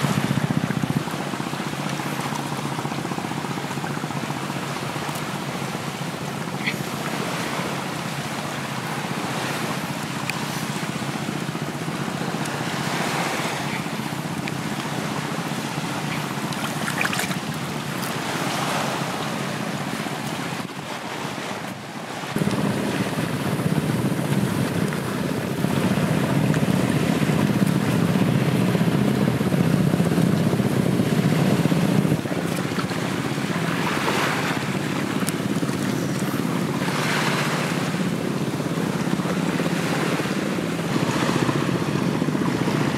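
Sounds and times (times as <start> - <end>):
wind buffeting microphone: 0.0 - 20.8, 22.3 - 42.9
waves washing onto sand: 0.0 - 42.9.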